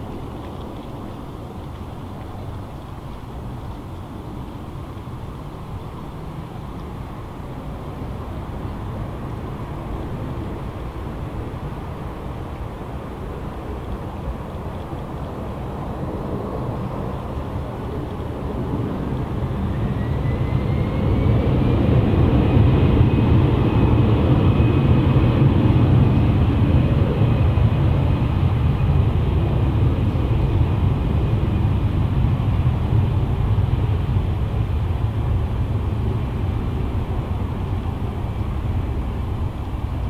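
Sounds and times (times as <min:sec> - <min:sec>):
jet engine whine: 0:00.0 - 0:40.0
jet engines rumbling: 0:00.0 - 0:40.0.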